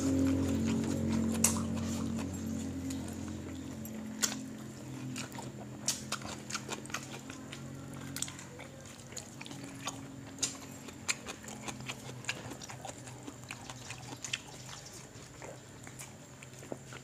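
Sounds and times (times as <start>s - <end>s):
chewing and lip-smacking: 0.0s - 17.0s
steady low hum: 0.0s - 17.0s.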